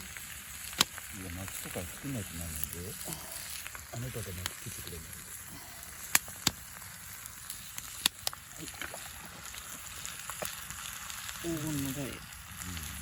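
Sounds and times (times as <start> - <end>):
meat and onions sizzling in a pan: 0.0 - 13.0.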